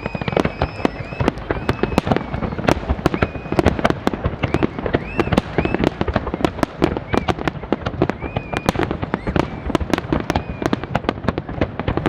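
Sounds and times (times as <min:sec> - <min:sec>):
fireworks bangs and crackles: 0:00.0 - 0:12.0
fireworks whistling: 0:00.0 - 0:12.0.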